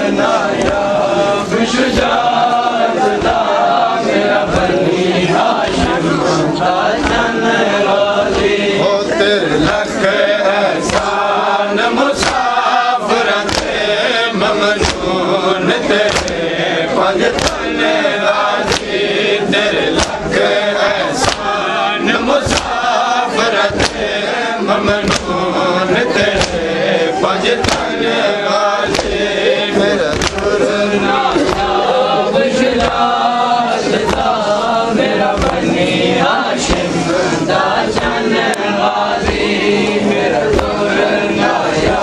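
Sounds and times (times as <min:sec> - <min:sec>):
men chanting in unison: 0:00.0 - 0:42.0
hands slapping chests: 0:00.5 - 0:01.0, 0:01.8 - 0:03.6, 0:05.6 - 0:07.4, 0:08.2 - 0:08.6, 0:09.6 - 0:10.1, 0:10.7 - 0:16.6, 0:17.2 - 0:31.9, 0:32.5 - 0:40.9.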